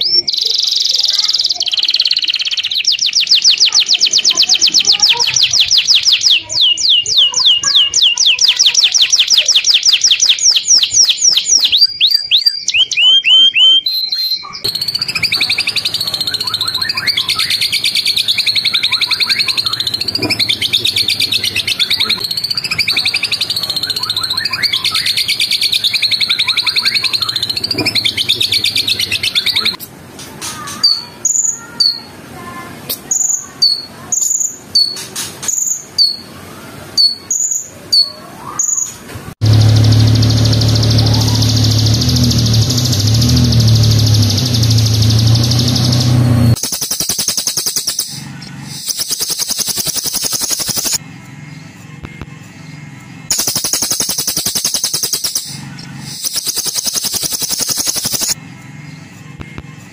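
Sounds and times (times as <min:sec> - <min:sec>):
bird high trilling song: 0:00.0 - 0:29.8, 0:33.0 - 0:36.3, 0:37.0 - 0:51.7, 0:52.6 - 0:59.1
songbird sharp repeated notes: 0:00.0 - 0:29.8, 0:39.4 - 0:59.6.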